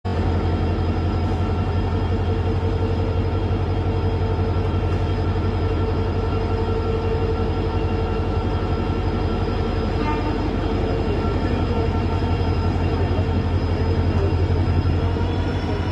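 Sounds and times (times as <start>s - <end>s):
diesel locomotive engine humming: 0.1s - 15.9s.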